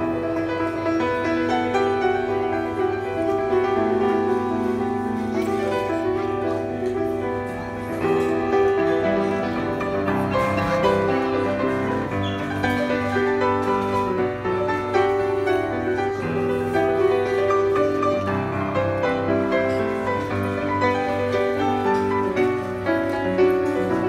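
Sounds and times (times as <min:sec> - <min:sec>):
grand piano melody: 0:00.0 - 0:24.0.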